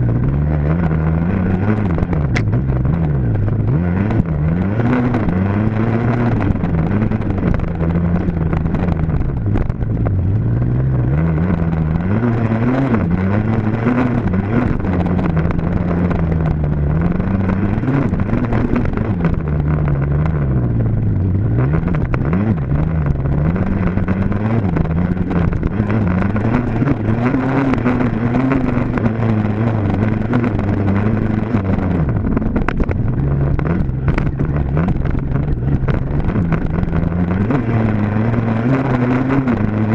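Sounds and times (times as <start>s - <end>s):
dirt bike engine revving: 0.0s - 9.8s, 10.6s - 39.9s.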